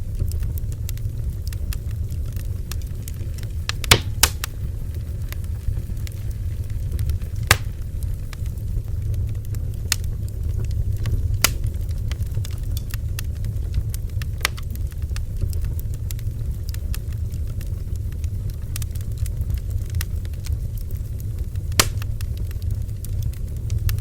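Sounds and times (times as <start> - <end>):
bonfire crackling and popping: 0.0 - 24.0.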